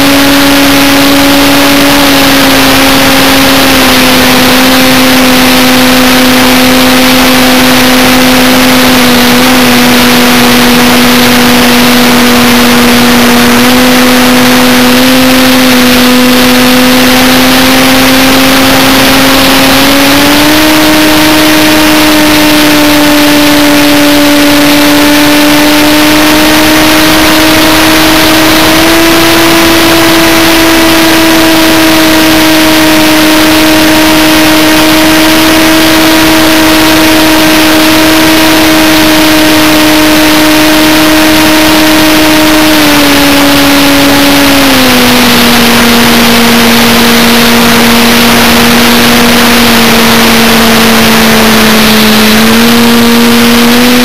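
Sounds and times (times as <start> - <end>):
model aircraft motor whining: 0.0 - 54.0.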